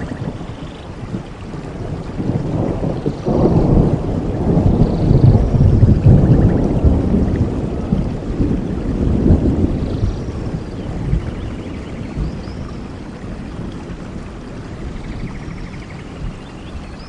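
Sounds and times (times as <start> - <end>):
rolling thunder: 0.0 - 16.4
steady rain: 0.0 - 17.0.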